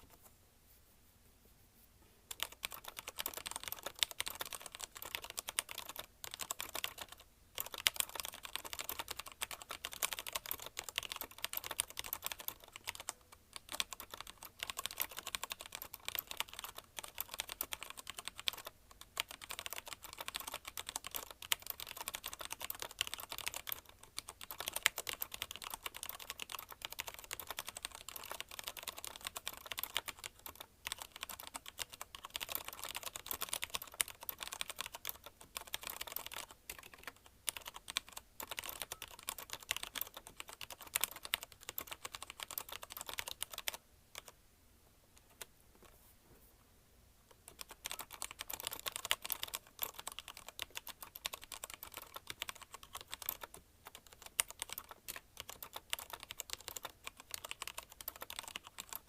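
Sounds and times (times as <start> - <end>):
fast typing on mechanical keyboard: 2.3 - 44.4, 47.4 - 59.0.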